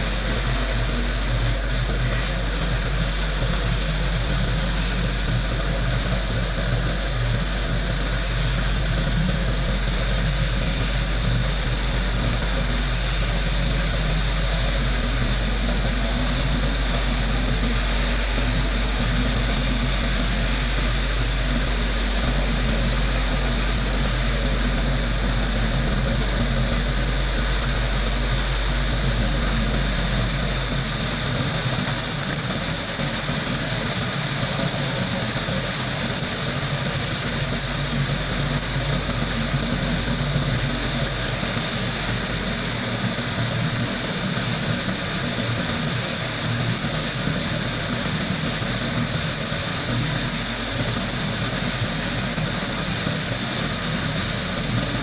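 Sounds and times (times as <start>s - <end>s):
low machine hum: 0.0s - 55.0s
sandblaster hissing: 0.0s - 55.0s.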